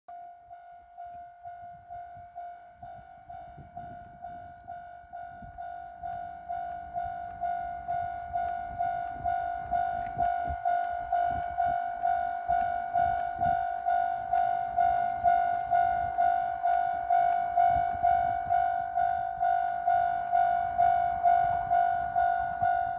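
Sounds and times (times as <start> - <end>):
level crossing warning bell: 0.1 - 22.9.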